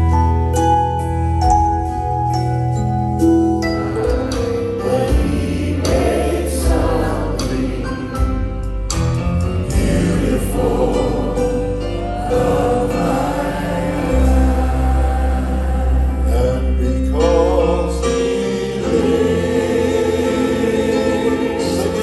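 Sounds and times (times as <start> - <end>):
gospel choir singing: 3.7 - 8.8, 9.4 - 22.0.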